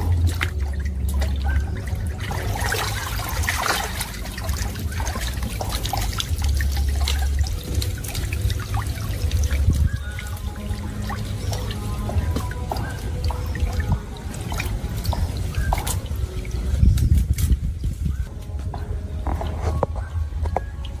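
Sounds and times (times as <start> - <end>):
pool water splashing: 0.0 - 21.0.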